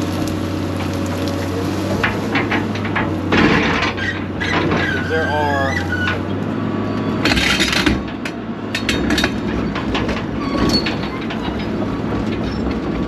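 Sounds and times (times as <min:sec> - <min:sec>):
heavy machine engine under load: 0:00.0 - 0:13.0
sharp cracks and clanks: 0:00.2 - 0:05.2, 0:07.2 - 0:13.0.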